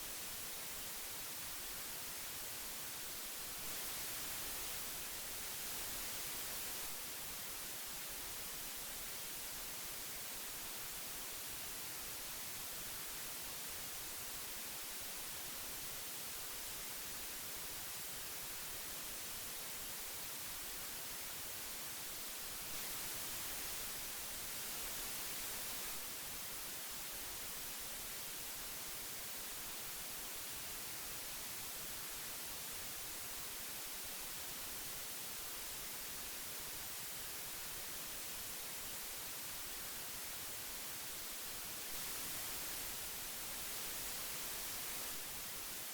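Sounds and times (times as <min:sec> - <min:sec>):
tape hiss: 0:00.0 - 0:45.9.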